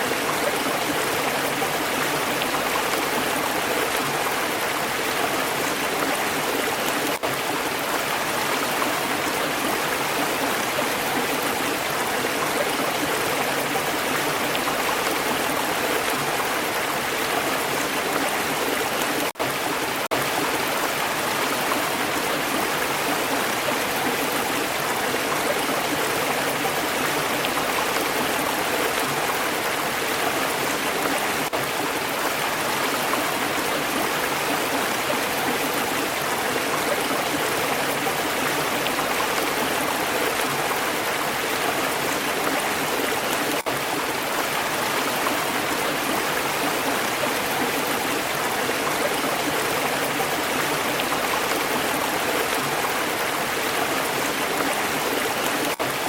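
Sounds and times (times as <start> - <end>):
stream water flowing over rocks: 0.0 - 56.0.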